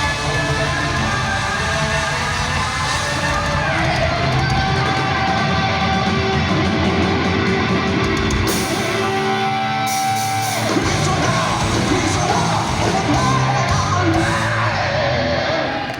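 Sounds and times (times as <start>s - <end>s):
singer shouting and singing: 0.0s - 7.8s, 8.4s - 15.9s
heavy metal band playing live: 0.0s - 15.9s.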